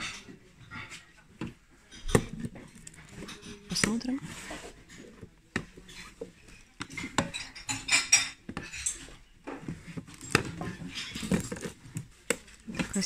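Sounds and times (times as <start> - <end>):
crockery and tins clinking: 0.0 - 13.0
rummaging in cardboard box: 0.6 - 7.4, 8.6 - 13.0.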